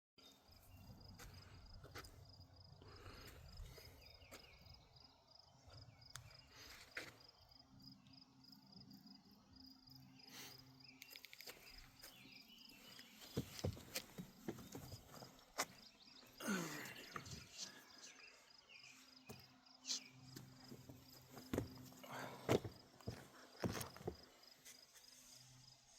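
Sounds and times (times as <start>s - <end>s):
insect chirping: 0.3s - 25.9s.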